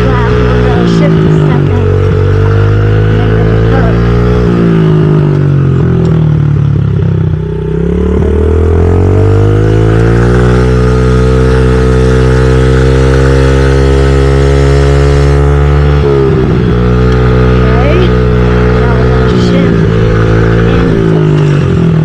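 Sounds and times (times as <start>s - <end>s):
dirt bike engine: 0.0s - 22.0s.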